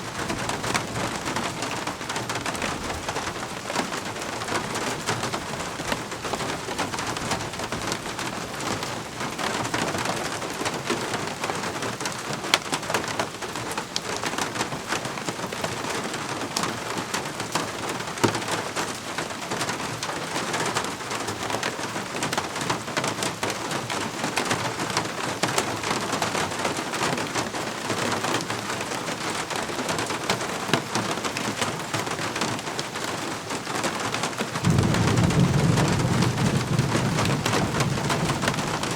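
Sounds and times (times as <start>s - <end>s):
rain falling: 0.0s - 38.9s
raindrops ticking on surface: 0.0s - 38.9s.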